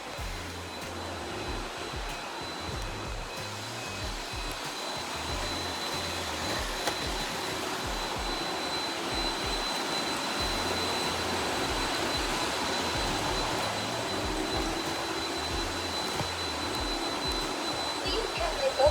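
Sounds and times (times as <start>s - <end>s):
robot vacuum cleaner whining: 0.0s - 18.9s.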